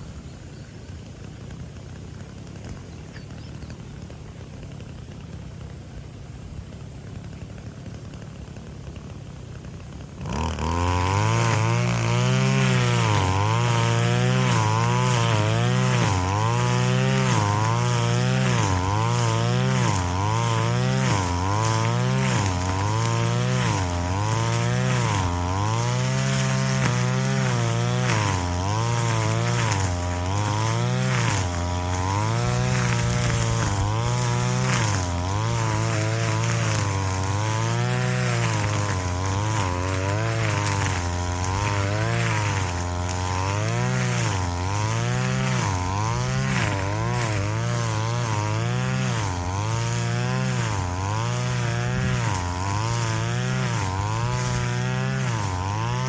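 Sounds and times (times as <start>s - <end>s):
brush cutter engine cutting grass: 0.0s - 56.0s.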